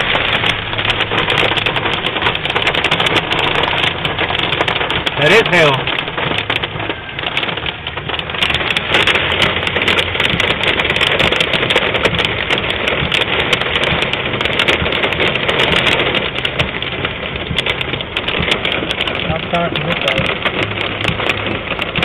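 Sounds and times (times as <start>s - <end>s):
hail drumming on car body: 0.0s - 22.0s.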